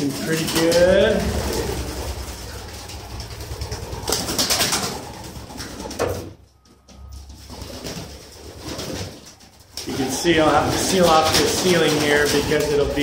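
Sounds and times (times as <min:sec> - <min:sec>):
pigeons cooing: 0:00.0 - 0:06.2, 0:07.4 - 0:13.0.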